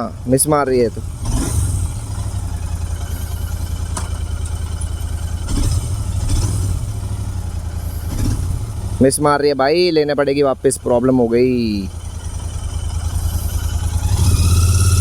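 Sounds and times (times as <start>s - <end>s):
motorcycle engine misfiring: 0.0s - 15.0s.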